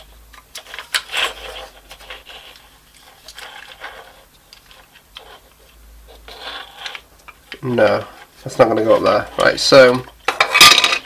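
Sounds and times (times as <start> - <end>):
plastic casing scraping and rubbing: 0.6 - 10.6.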